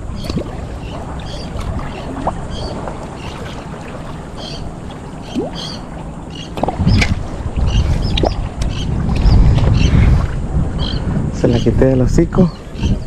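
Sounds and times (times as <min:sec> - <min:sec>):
water at shore: 0:00.0 - 0:13.0
wind: 0:00.0 - 0:13.0.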